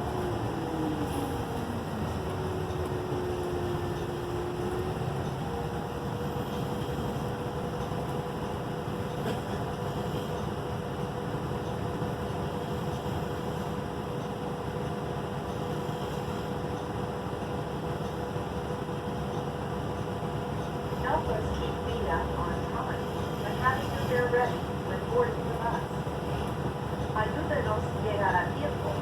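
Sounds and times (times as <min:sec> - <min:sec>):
bus engine and road noise: 0:00.0 - 0:29.0.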